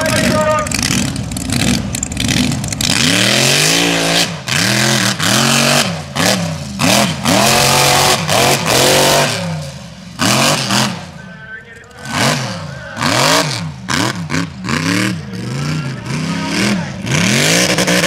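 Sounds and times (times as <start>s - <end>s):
truck engine revving hard: 0.0s - 11.3s, 12.0s - 18.0s.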